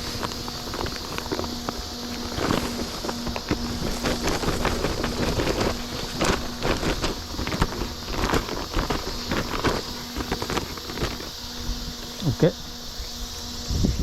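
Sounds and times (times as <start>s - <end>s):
vegetation rustling and snapping: 0.0s - 13.3s
footsteps through grass: 0.0s - 13.8s
small electric fan humming: 0.0s - 14.0s.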